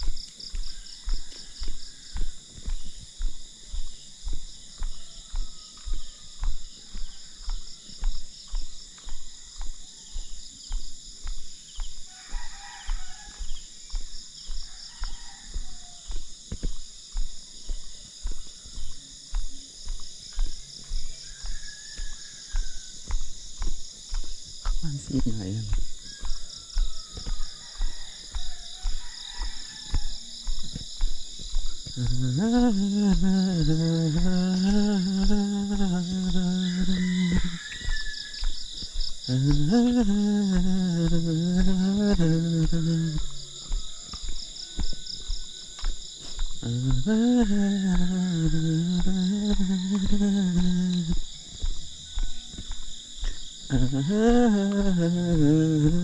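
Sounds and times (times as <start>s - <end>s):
footsteps thudding: 0.0s - 56.0s
high-pitched insect drone: 0.0s - 56.0s.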